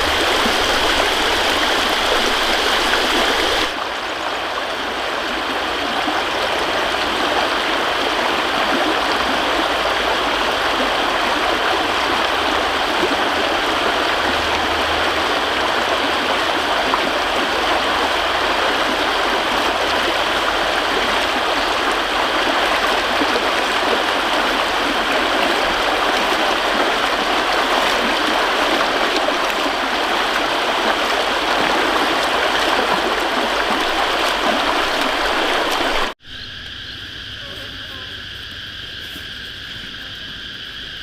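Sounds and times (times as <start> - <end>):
running water rushing: 0.0 - 36.2.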